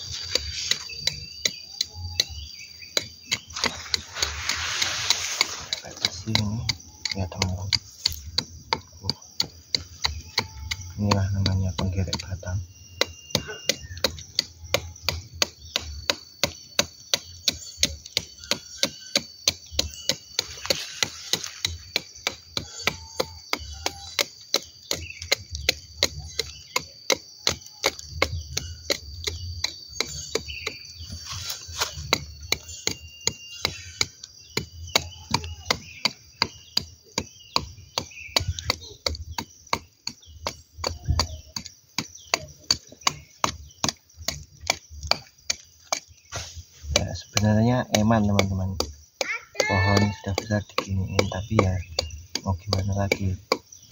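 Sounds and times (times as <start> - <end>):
knife scraping tree bark: 0.0 - 53.9.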